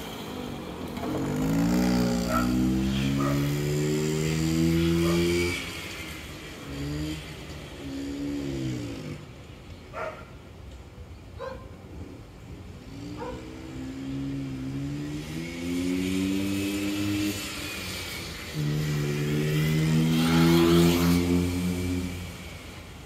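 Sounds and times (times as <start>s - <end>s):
small engine running under load: 0.0s - 10.1s, 12.8s - 23.0s.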